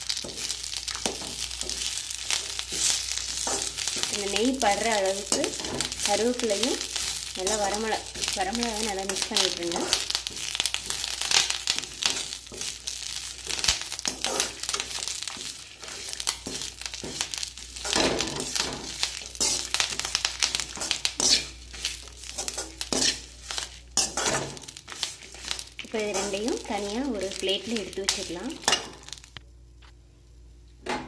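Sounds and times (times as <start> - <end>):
metal spatula scraping a pan: 0.2 - 29.0.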